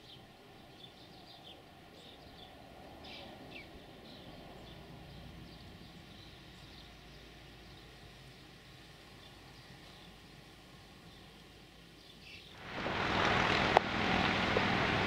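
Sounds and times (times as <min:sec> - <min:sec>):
faint birdsong: 0:00.0 - 0:12.6.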